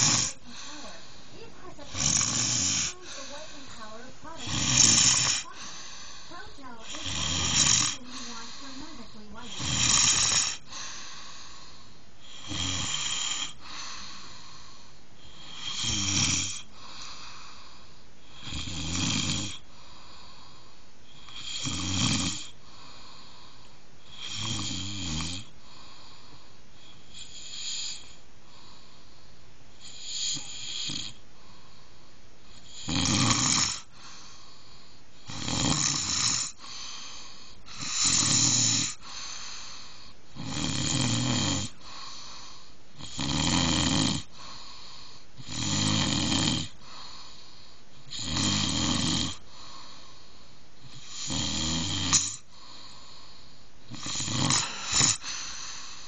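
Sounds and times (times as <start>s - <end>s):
person snoring: 0.0s - 20.5s, 21.2s - 23.4s, 24.1s - 26.2s, 27.0s - 28.9s, 29.8s - 31.2s, 32.6s - 34.5s, 35.2s - 50.2s, 50.8s - 56.0s.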